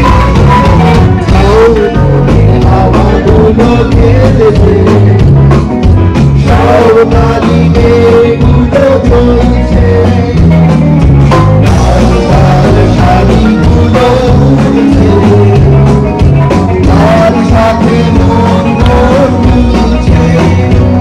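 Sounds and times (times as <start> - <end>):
amplified band music: 0.0 - 21.0
steady drum beat: 0.0 - 21.0
man singing into a microphone: 1.2 - 5.4, 6.4 - 16.0, 16.8 - 21.0.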